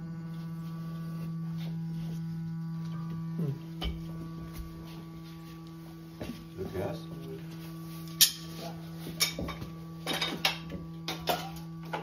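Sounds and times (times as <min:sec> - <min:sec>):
gas regulator humming: 0:00.0 - 0:12.0.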